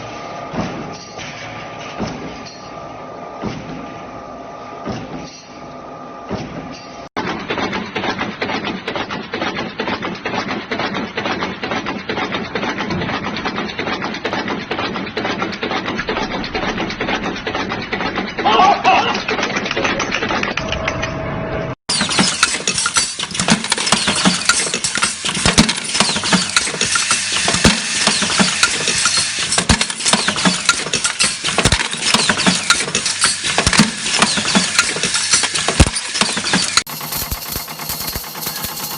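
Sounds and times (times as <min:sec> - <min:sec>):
rapid mechanical clatter: 0:06.6 - 0:21.0, 0:21.9 - 0:38.9.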